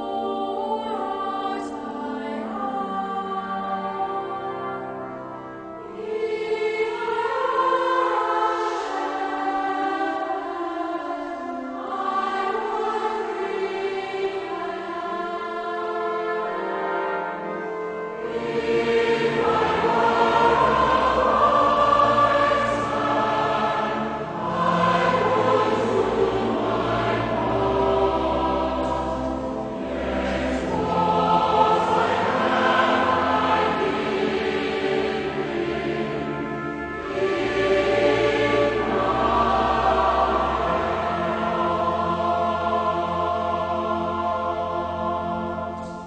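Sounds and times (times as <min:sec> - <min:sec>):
choir singing a carol: 0:00.0 - 0:46.0
musical accompaniment: 0:00.0 - 0:46.0.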